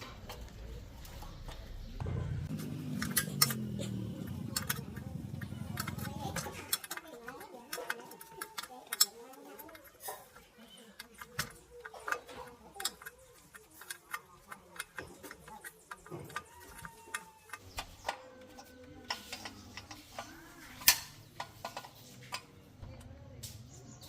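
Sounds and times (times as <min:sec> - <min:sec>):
tools clicking and tapping: 0:02.5 - 0:23.6.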